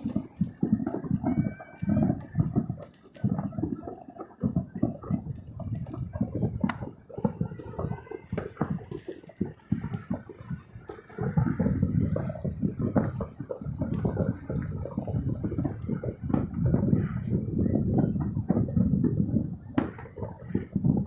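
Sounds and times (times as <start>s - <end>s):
distant fireworks booming: 0.0s - 21.0s
sharp firework crack: 0.0s - 21.0s.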